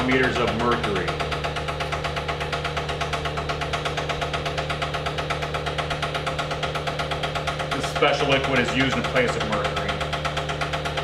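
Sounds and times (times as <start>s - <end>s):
vacuum pump pulsing: 0.0s - 11.0s.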